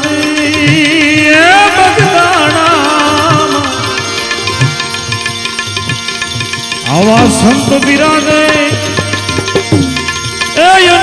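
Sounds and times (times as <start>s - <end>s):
tabla rhythm: 0.0s - 11.0s.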